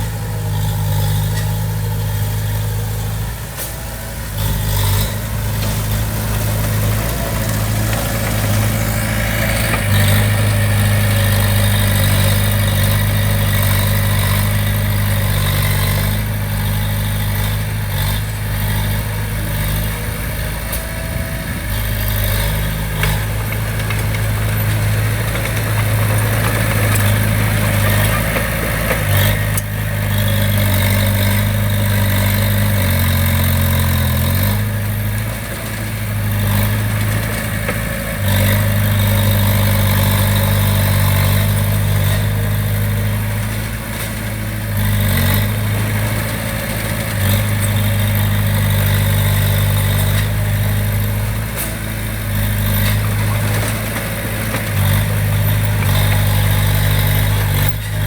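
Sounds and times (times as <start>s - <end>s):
heavy machine diesel engine running: 0.0s - 58.0s.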